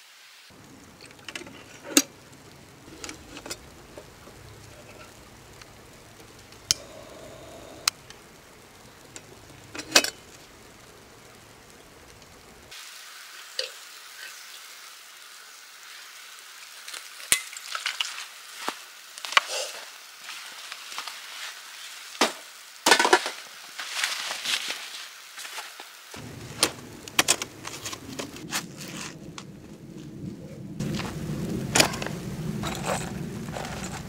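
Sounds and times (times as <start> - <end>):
lantern crackling and sizzling: 0.0 - 34.0.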